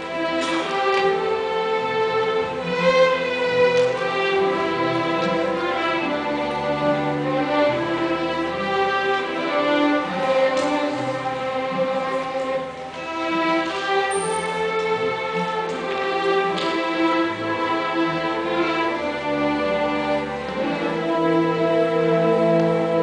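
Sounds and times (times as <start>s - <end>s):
string orchestra playing: 0.0s - 23.0s.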